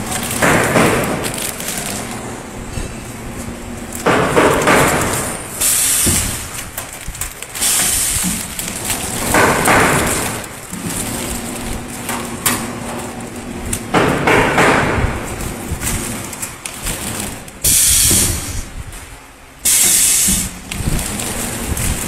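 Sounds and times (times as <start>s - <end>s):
plastic film crinkling and knocking: 0.0s - 2.2s, 3.3s - 19.2s, 20.3s - 22.0s
wrapping machine humming: 0.0s - 22.0s.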